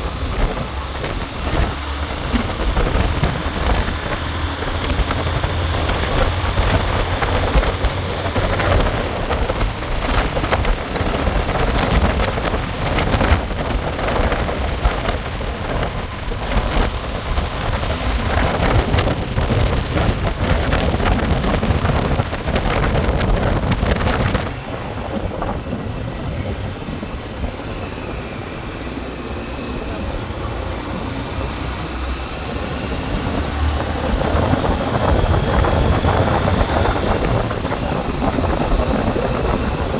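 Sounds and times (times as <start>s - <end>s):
motorcycle engine running: 0.0s - 39.9s
wind rumbling on microphone: 0.0s - 39.9s.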